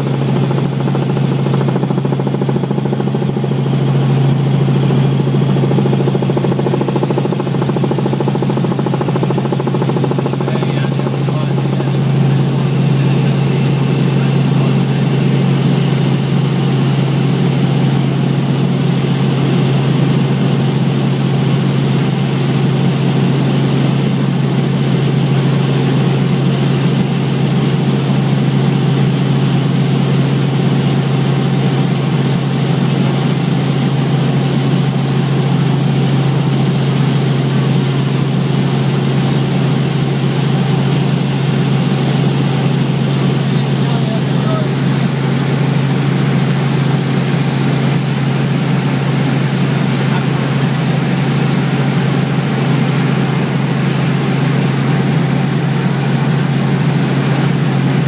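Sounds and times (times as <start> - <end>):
helicopter cabin drone: 0.0 - 58.0.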